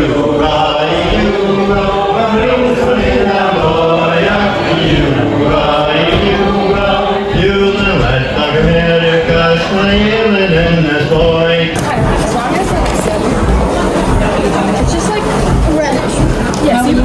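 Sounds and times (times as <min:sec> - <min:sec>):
group singing chant-like song: 0:00.0 - 0:17.0.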